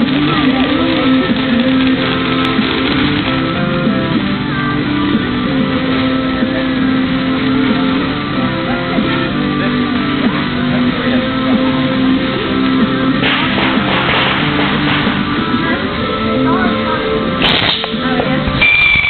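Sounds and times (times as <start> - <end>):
music with held notes: 0.0 - 18.6.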